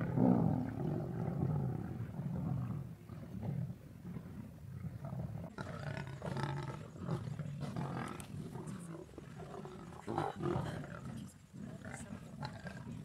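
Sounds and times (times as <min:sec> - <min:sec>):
lions growling and snarling: 0:00.0 - 0:13.0.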